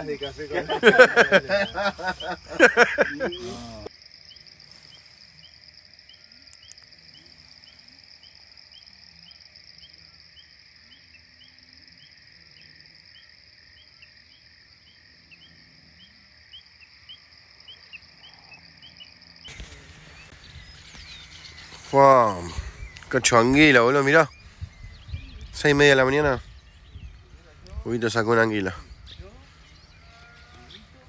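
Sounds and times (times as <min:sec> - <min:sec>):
insect chirping: 0:00.0 - 0:31.0
insect high drone: 0:00.0 - 0:31.0.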